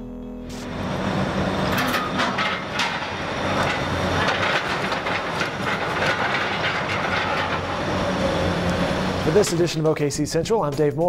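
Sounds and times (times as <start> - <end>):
excavator engine running: 0.4 - 10.2
falling concrete and metal debris: 0.6 - 10.0.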